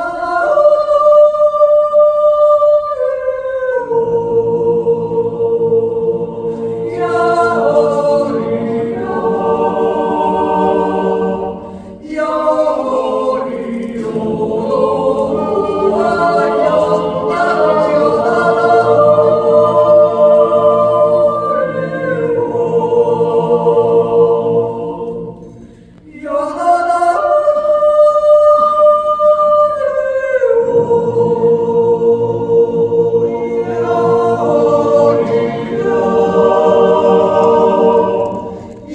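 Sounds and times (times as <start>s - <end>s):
mixed choir yodelling a cappella: 0.0s - 38.9s.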